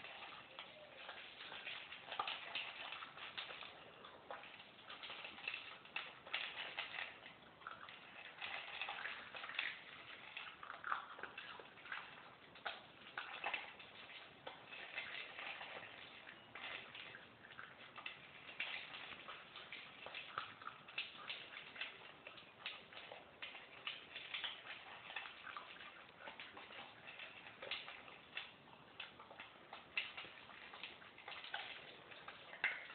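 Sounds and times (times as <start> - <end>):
dogs crunching dry kibble: 0.0 - 32.9.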